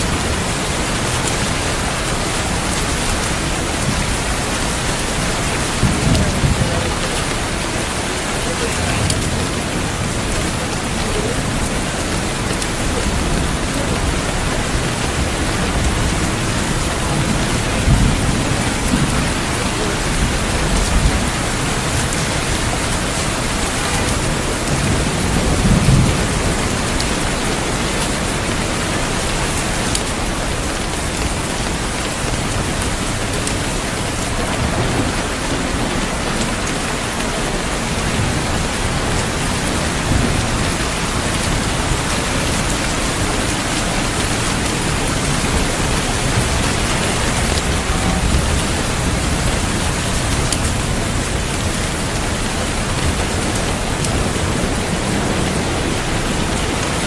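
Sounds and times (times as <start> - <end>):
heavy rain pouring: 0.0 - 57.0
thunder rumbling: 0.0 - 57.0.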